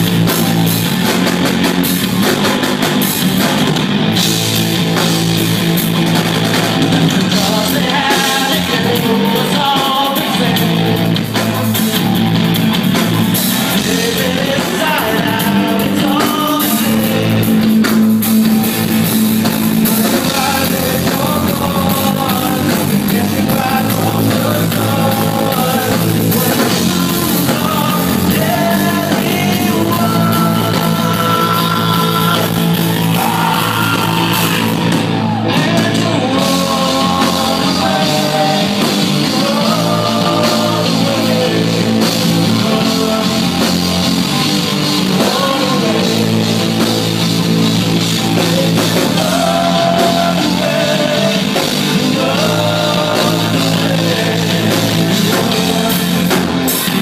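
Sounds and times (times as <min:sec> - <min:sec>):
bass guitar: 0:00.0 - 0:57.0
drum kit: 0:00.0 - 0:57.0
electric guitars: 0:00.0 - 0:57.0
lead singer: 0:00.0 - 0:57.0.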